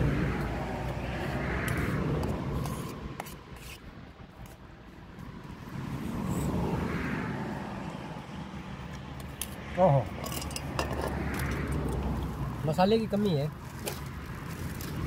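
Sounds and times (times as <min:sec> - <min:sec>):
vehicles passing on road: 0:00.0 - 0:15.0.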